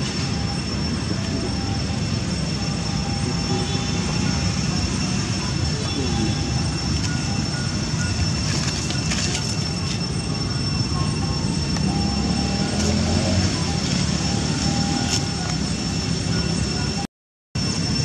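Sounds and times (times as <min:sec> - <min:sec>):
faint high-pitched tones: 0:00.0 - 0:18.0.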